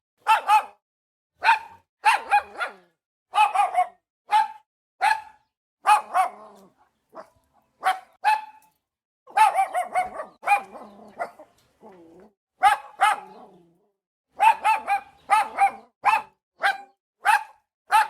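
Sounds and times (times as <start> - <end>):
dog barking: 0.2 - 0.8, 1.4 - 8.7, 9.3 - 11.5, 12.6 - 13.6, 14.3 - 18.0.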